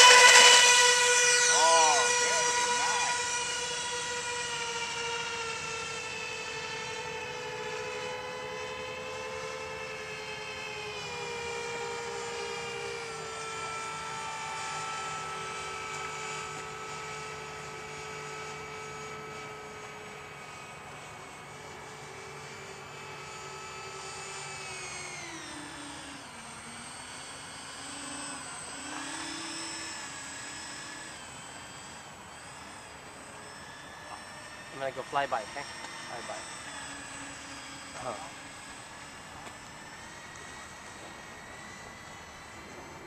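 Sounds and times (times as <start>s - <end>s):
model airplane engines whining: 0.0s - 43.0s.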